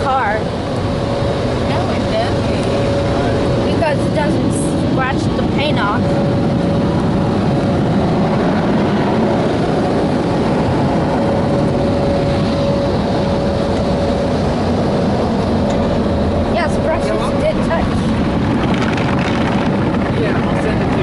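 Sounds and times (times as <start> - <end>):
dryer blowers roaring: 0.0 - 21.0.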